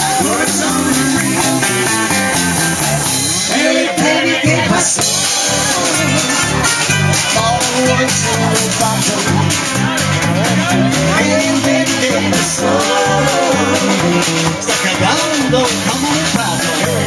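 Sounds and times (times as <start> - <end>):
person singing: 0.0 - 1.9, 3.3 - 17.0
drum kit beat on cymbals: 0.0 - 17.0
electric guitars and bass: 0.0 - 17.0.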